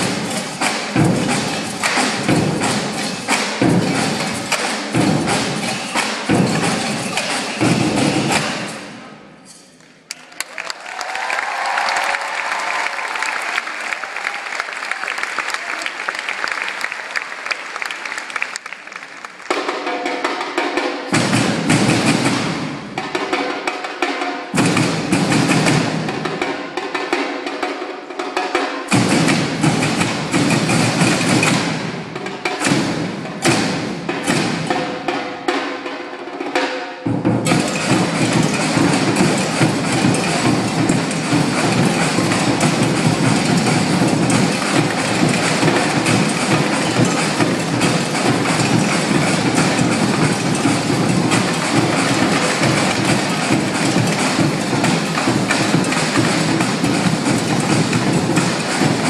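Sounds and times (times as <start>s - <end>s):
snare drums playing: 0.0s - 9.6s, 19.4s - 59.0s.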